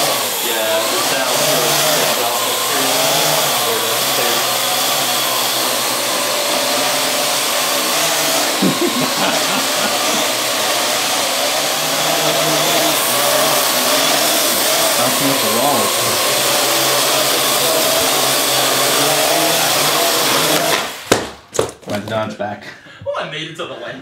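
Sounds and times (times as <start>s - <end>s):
drone rotors whirring: 0.0s - 21.0s.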